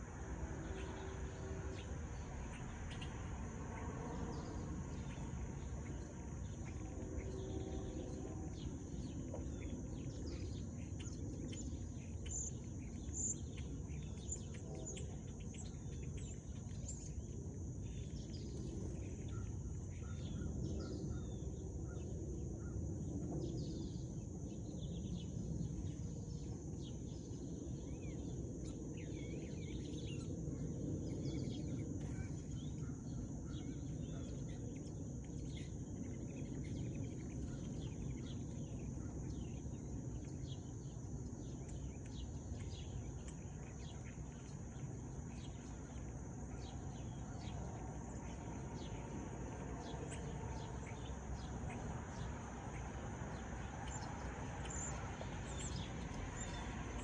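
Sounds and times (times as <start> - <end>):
sparrows chirping: 0.6 - 3.5, 4.2 - 22.1, 24.8 - 57.0.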